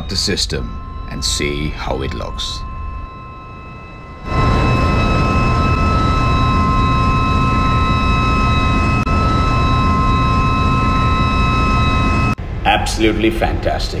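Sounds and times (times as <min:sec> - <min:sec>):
engine room machinery rumble: 0:00.0 - 0:14.0
steady high whines: 0:00.0 - 0:14.0.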